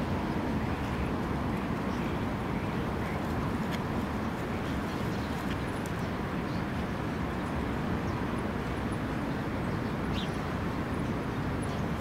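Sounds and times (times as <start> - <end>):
low urban traffic rumble: 0.0 - 12.0.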